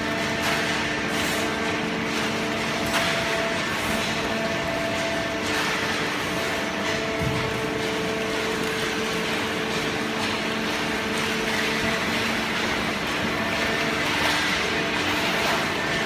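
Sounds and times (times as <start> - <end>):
cardboard baler machine hum: 0.0 - 16.0.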